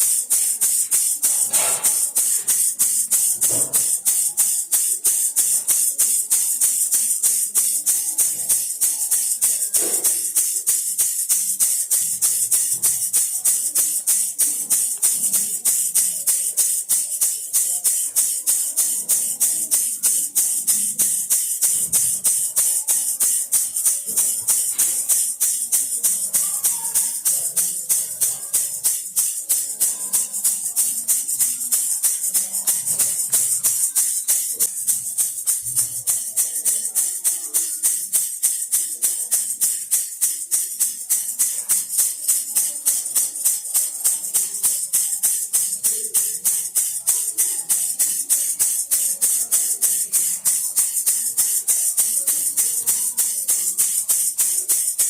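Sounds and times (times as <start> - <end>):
baby rattle shaking: 0.0 - 55.0.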